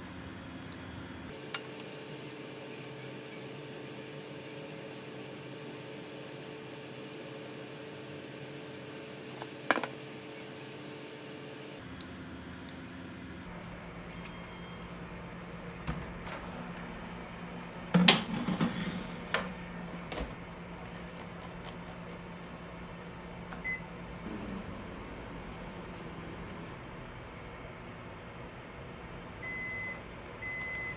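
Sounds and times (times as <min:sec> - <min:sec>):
oven humming: 0:00.0 - 0:30.9.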